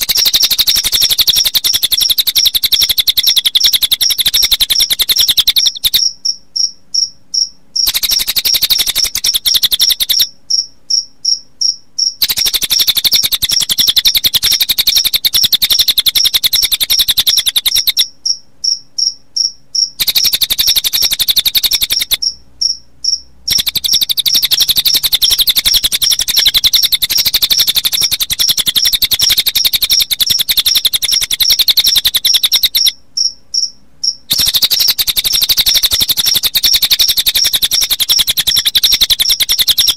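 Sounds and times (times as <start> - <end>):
bird trilling song: 0.0 - 39.9
crickets chirping: 0.0 - 39.9.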